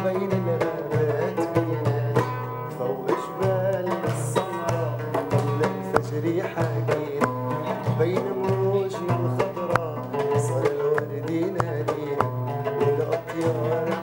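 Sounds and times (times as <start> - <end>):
oud plucked melody: 0.0 - 14.0.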